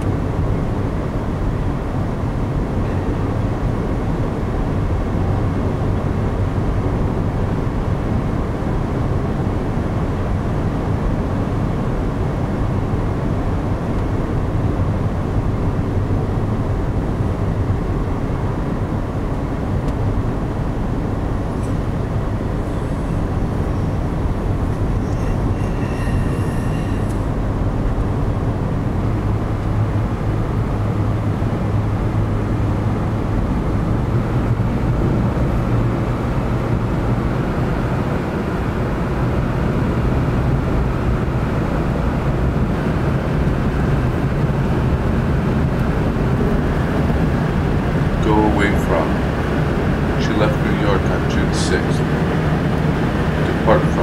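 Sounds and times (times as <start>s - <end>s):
road and engine noise in car: 0.0s - 54.0s.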